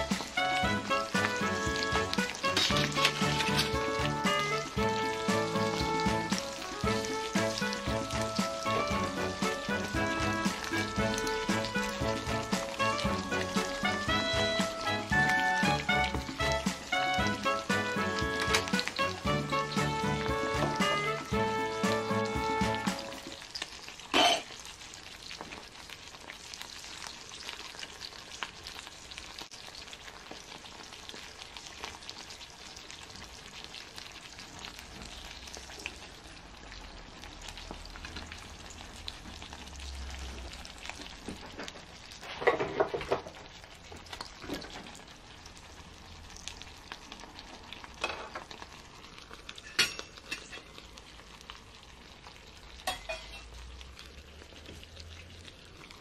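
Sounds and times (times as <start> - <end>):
meat sizzling in skillet: 0.0 - 56.0.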